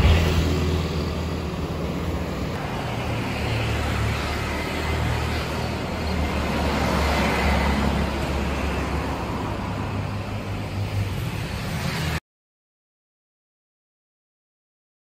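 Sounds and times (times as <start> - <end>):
road traffic rumble: 0.0 - 12.2.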